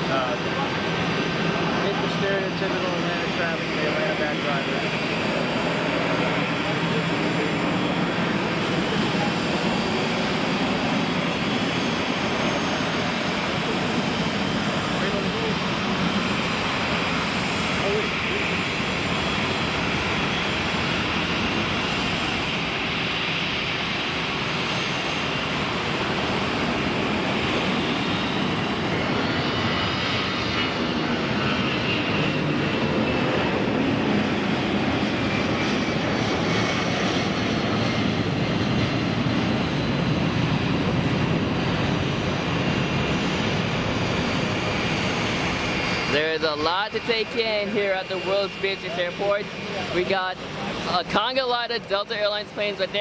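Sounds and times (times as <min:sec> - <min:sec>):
jet engines rushing: 0:00.0 - 0:53.0.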